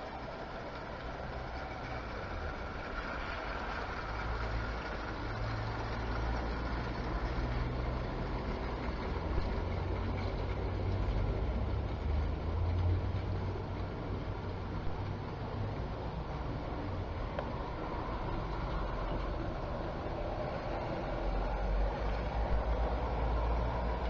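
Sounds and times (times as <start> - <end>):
model train motor hum: 0.0 - 24.0
wheels rumbling on rails: 0.0 - 24.0.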